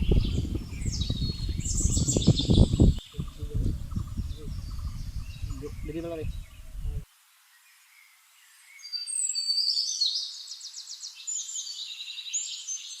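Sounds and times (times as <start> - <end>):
bird chirps and trills: 0.0 - 13.0.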